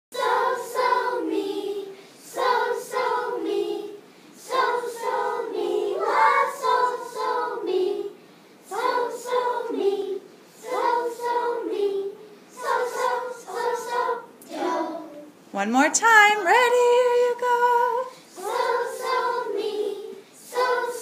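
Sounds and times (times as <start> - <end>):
children singing in unison: 0.2 - 15.4, 17.8 - 21.0.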